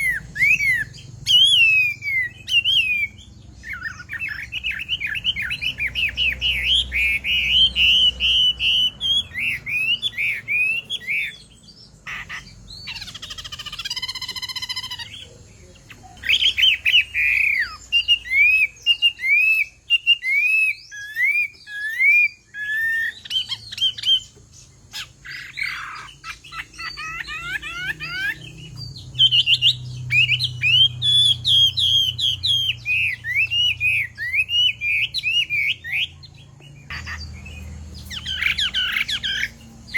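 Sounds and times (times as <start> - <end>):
bird singing whistled phrases: 0.0 - 15.4, 16.1 - 39.9
harsh bird call: 0.0 - 39.9.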